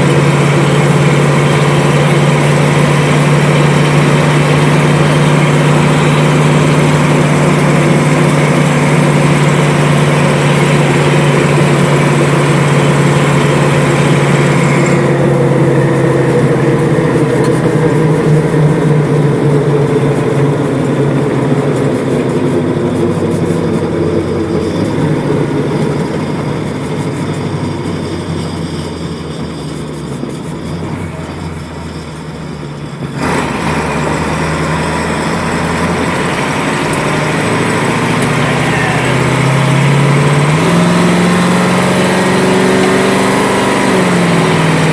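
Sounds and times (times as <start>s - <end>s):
engine drone inside cab: 0.0s - 44.9s
road rushing noise: 0.0s - 44.9s.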